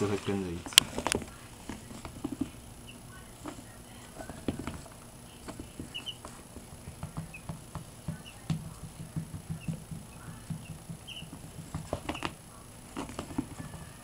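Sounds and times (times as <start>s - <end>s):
chicks pattering on rug: 0.0s - 14.0s
chicks peeping: 1.9s - 14.0s.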